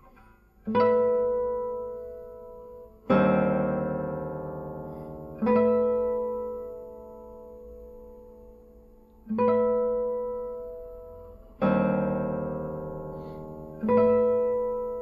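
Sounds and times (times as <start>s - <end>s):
classical guitar chords: 0.0s - 15.0s.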